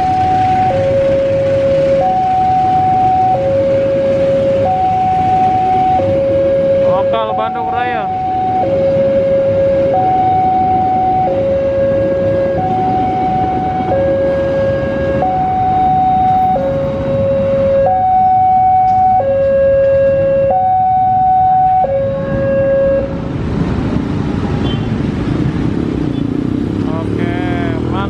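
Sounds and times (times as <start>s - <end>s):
motorcycle engines: 0.0s - 28.0s
passing train rumble: 0.0s - 28.0s.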